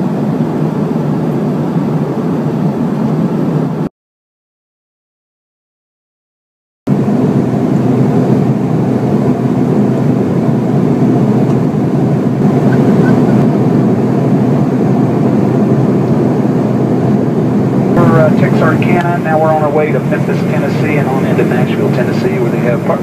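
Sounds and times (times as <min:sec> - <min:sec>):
jet airliner cabin noise: 0:00.0 - 0:03.9, 0:06.9 - 0:23.0.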